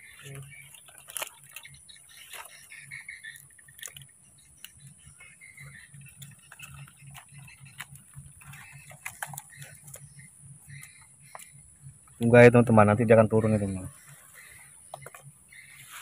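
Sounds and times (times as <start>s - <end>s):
faint chirps: 0.0s - 16.0s.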